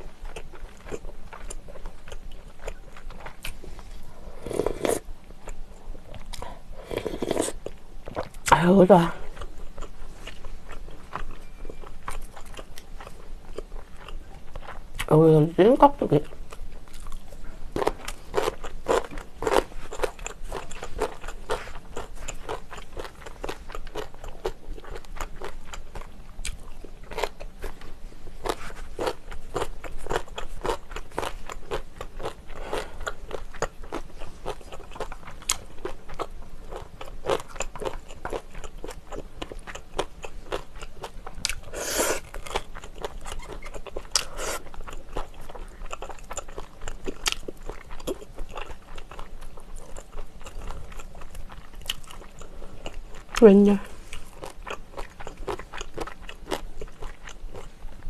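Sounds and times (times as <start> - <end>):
crunching and chewing: 0.0 - 8.6, 9.2 - 15.1, 16.2 - 58.0.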